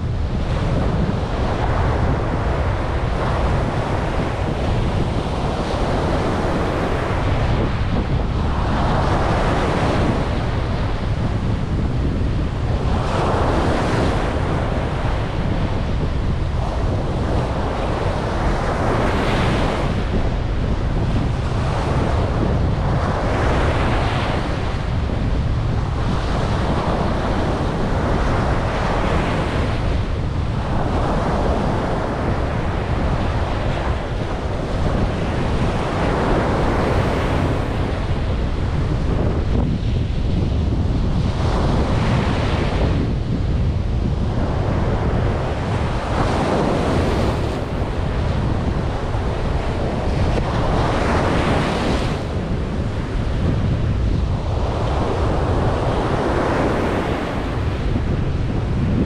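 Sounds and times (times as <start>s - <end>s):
sea waves breaking on beach: 0.0s - 59.0s
wind buffeting microphone: 0.0s - 59.0s.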